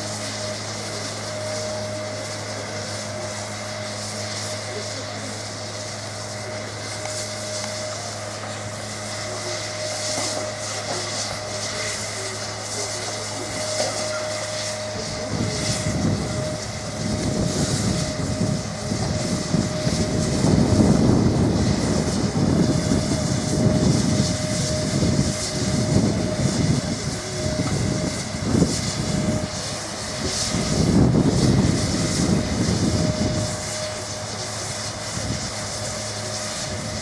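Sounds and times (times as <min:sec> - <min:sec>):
machinery whining: 0:00.0 - 0:37.0.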